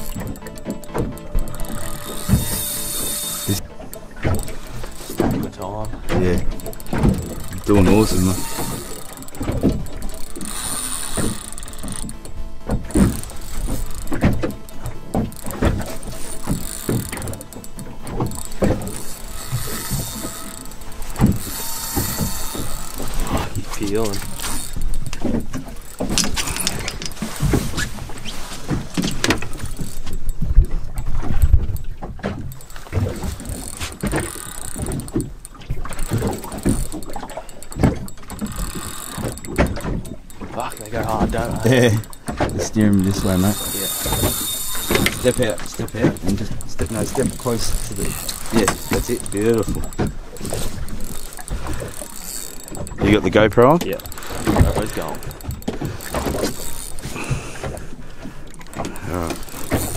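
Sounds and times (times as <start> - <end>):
fishing reel cranking: 0.0 - 59.9
handling knocks and clicks: 0.0 - 59.9.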